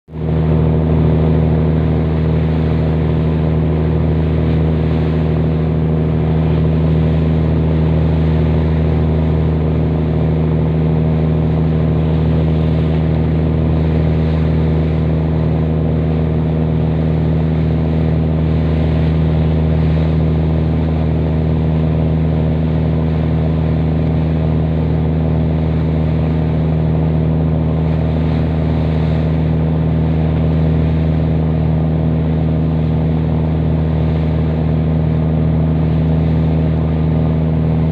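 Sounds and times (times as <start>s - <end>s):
boat engine droning: 0.1s - 37.9s
water rushing: 0.2s - 37.9s.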